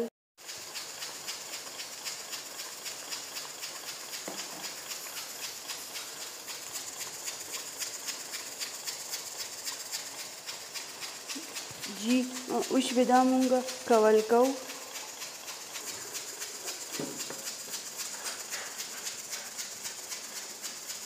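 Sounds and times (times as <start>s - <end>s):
sauce sizzling and popping in a wok: 0.4s - 21.0s.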